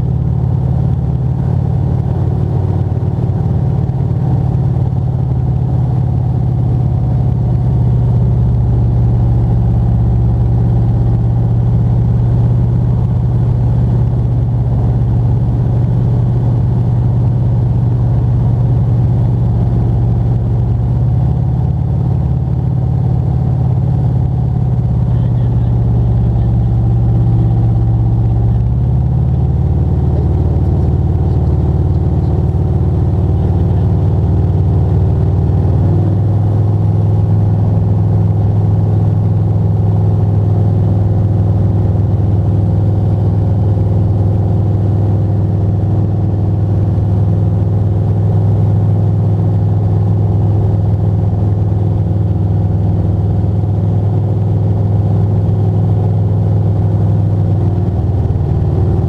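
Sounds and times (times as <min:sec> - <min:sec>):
glider engine and propeller drone: 0:00.0 - 0:59.0.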